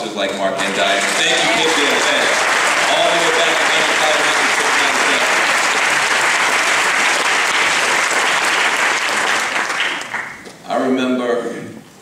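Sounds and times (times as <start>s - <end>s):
audience applauding: 0.6s - 10.5s.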